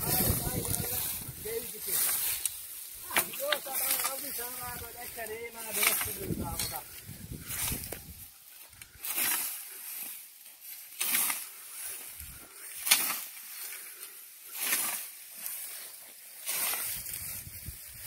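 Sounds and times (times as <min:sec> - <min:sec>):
scythe swishing through grain stalks: 0:00.0 - 0:13.7, 0:14.4 - 0:18.0.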